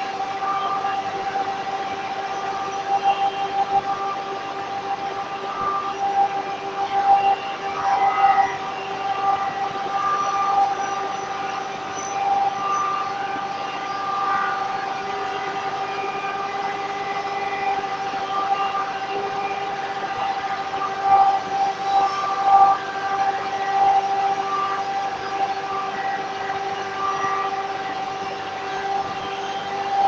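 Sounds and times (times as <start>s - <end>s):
woodworking machine whine: 0.0s - 30.0s.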